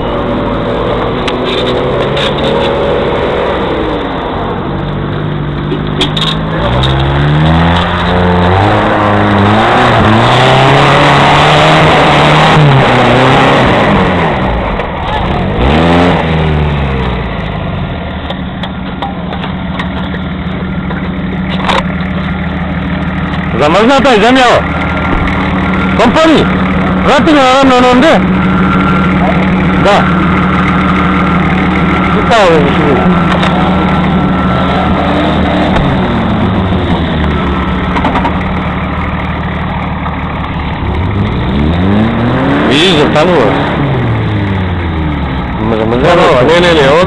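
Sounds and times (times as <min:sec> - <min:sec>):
vehicle engine idling: 0:00.0 - 0:11.4, 0:13.7 - 0:47.0.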